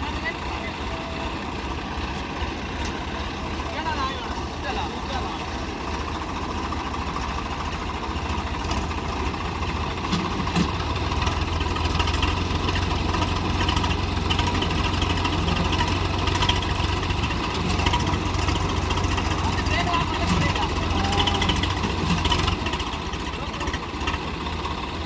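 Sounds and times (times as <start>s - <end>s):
tractor diesel engines running hard: 0.0s - 25.0s.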